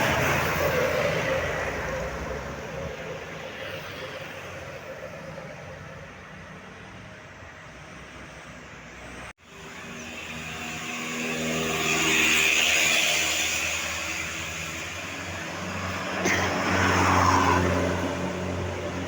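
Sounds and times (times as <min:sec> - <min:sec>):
bus engine drone: 0:00.0 - 0:19.0
roadside traffic: 0:00.0 - 0:19.0.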